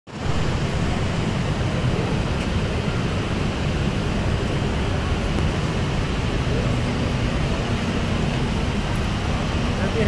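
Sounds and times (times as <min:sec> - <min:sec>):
rushing noise with low rumble: 0:00.1 - 0:10.0.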